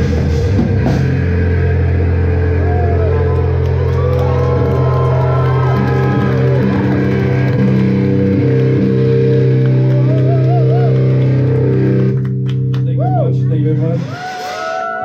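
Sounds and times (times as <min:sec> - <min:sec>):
bass guitar sustained notes: 0:00.0 - 0:15.0
electric guitar sustained notes: 0:00.0 - 0:15.0.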